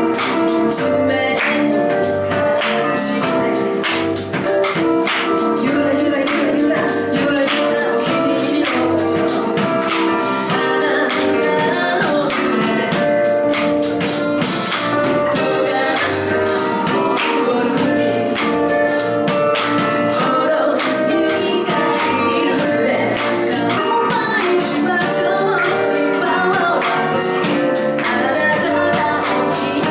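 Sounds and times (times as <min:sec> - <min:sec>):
woman singing into microphone: 0:00.0 - 0:13.8, 0:15.2 - 0:29.9
acoustic guitar: 0:00.0 - 0:29.9.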